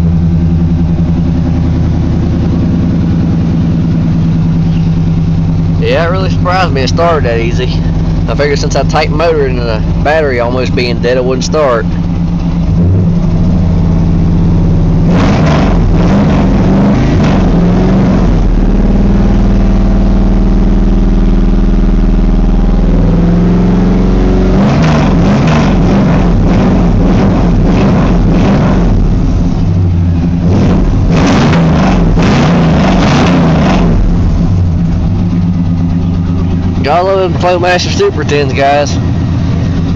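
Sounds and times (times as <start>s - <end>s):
truck engine revving and idling: 0.0s - 39.9s.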